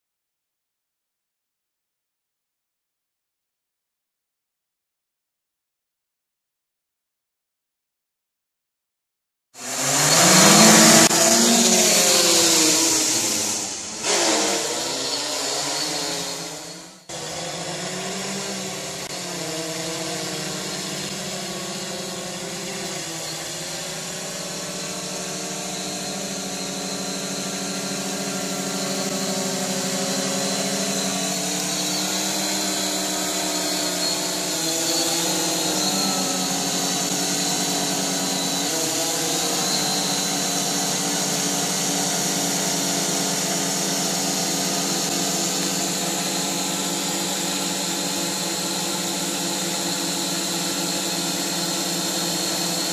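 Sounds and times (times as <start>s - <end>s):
drone motors whining: 9.6s - 52.9s.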